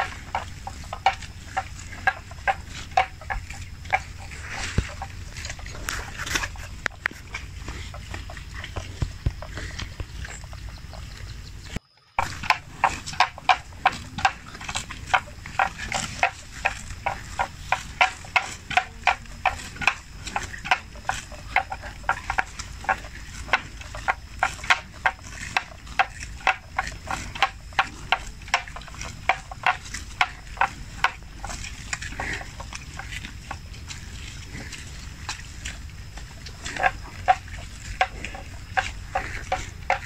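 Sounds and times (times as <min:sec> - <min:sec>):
buffalo crunching grass: 0:00.0 - 0:40.0.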